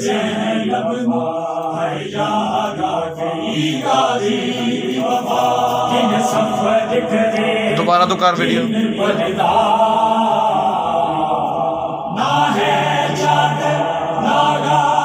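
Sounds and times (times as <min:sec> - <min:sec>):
person chanting a lament: 0:02.9 - 0:15.0.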